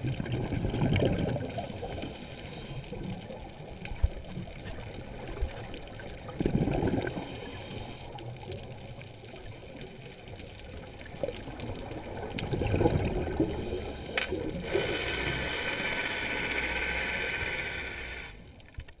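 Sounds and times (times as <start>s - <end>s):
exhaled bubbles gurgling underwater: 0.0s - 18.9s.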